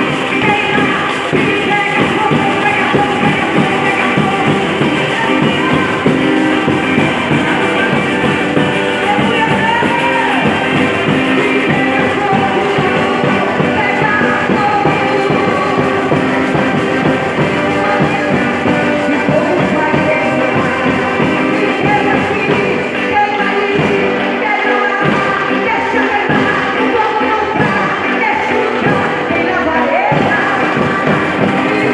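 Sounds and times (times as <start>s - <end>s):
people singing: 0.0s - 31.9s.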